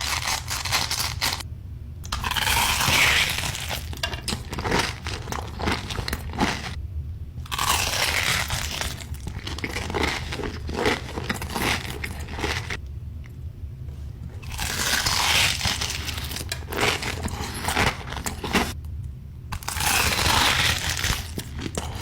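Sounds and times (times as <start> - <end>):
crunchy chewing and biting: 0.0 - 1.4, 2.1 - 6.8, 7.4 - 12.8, 14.4 - 18.8, 19.5 - 22.0
low hum: 0.0 - 22.0.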